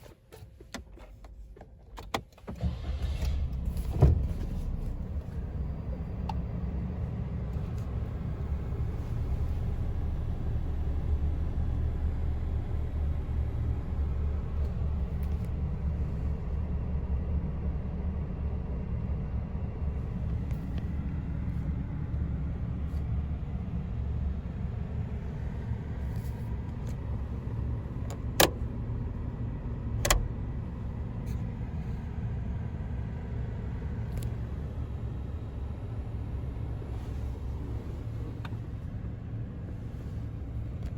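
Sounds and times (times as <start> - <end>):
car engine starting and idling: 0.0 - 40.9.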